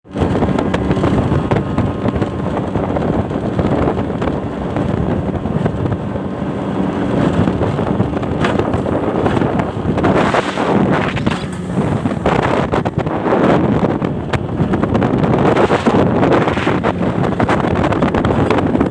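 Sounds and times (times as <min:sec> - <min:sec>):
outboard motor drone: 0:00.0 - 0:18.9
wind buffeting microphone: 0:00.0 - 0:18.9.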